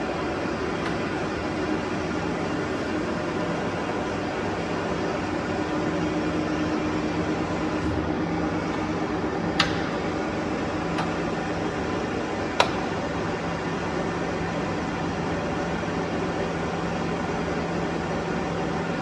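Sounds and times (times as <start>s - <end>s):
lathe mechanical hum: 0.0s - 19.0s.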